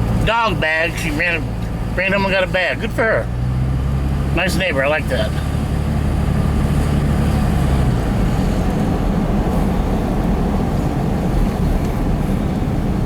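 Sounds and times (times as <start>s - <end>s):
road noise: 0.0s - 13.0s
truck engine: 0.0s - 13.0s.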